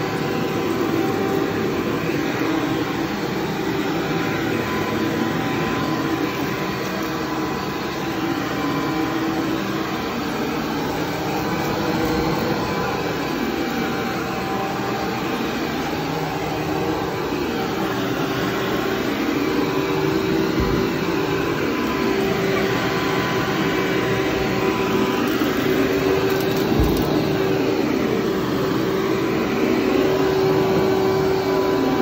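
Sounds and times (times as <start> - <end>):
vacuum cleaner running on carpet: 0.0 - 32.0.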